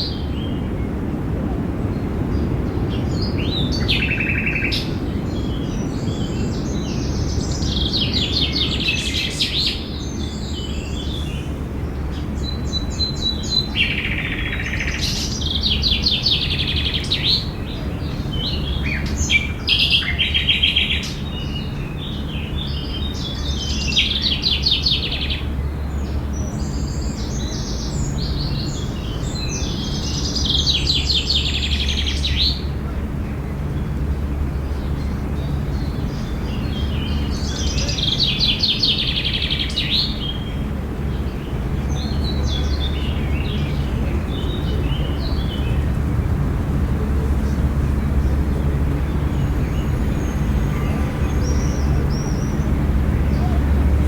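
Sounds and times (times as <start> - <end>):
low background rumble: 0.0 - 54.0
songbirds singing: 0.0 - 54.0.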